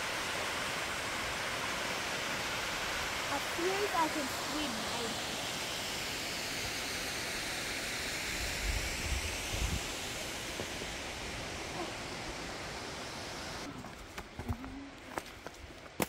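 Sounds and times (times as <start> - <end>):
waterfall rushing into pool: 0.0 - 13.7.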